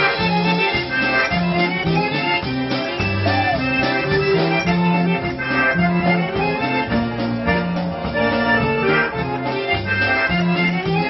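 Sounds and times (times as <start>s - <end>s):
polka band playing: 0.0s - 11.0s.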